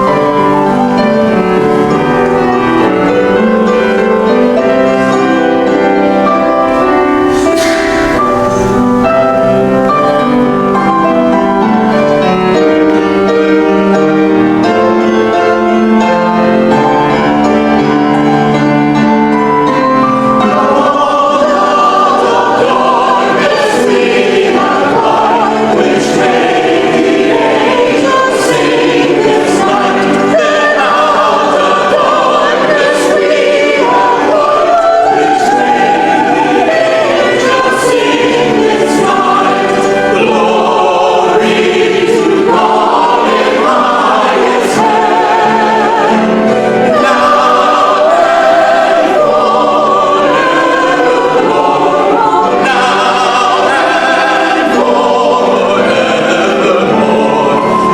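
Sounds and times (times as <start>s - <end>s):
church choir singing: 0.0s - 57.9s.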